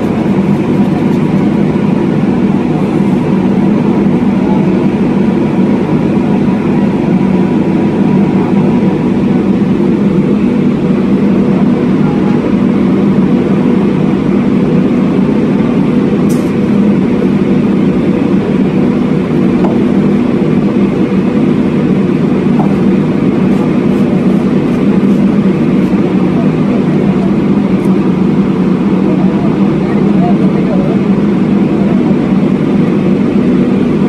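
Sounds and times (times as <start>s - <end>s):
piling rig engine droning: 0.0s - 34.0s.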